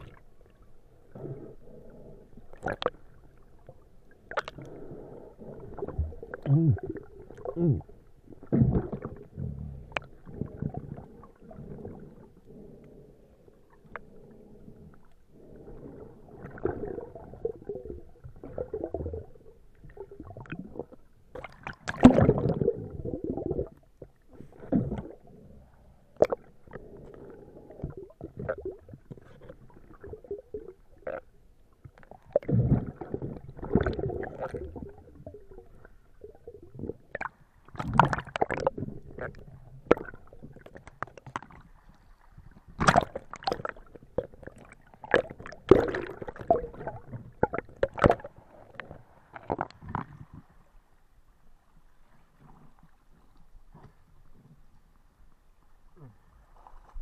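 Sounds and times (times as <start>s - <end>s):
underwater breath bubbling: 1.0s - 31.3s, 32.3s - 41.0s, 41.7s - 50.6s.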